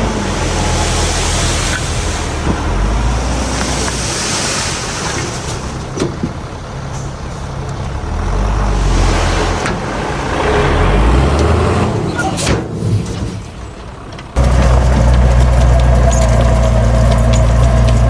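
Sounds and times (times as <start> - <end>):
heavy diesel machinery rumbling: 0.0 - 18.0.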